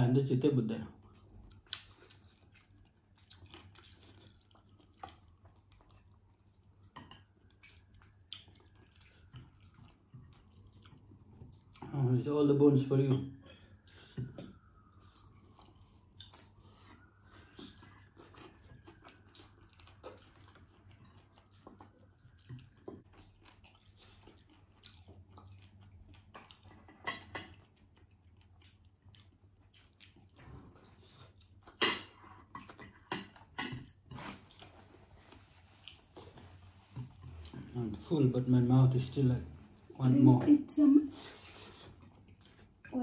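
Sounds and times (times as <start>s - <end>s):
chewing and mouth clicks: 0.9s - 12.2s, 13.0s - 38.2s, 41.8s - 43.0s.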